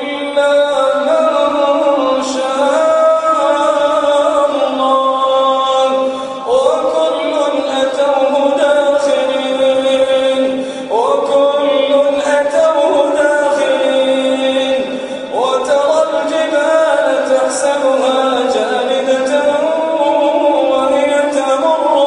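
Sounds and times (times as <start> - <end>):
man chanting melodically: 0.0 - 22.0.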